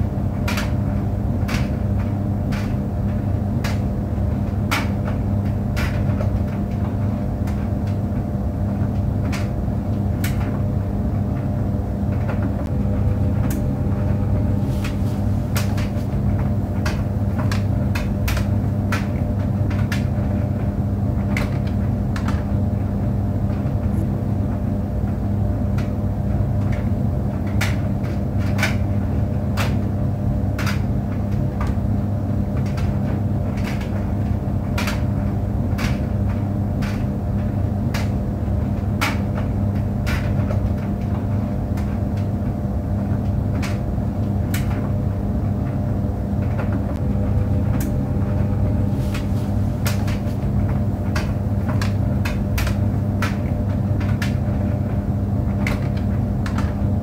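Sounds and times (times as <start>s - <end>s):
tumble dryer humming: 0.0s - 57.0s.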